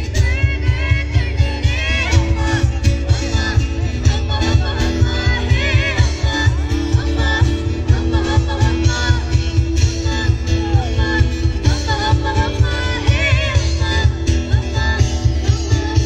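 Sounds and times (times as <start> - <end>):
acoustic guitar: 0.0 - 16.0
steady drum beat: 0.0 - 16.0
woman singing: 0.0 - 16.0.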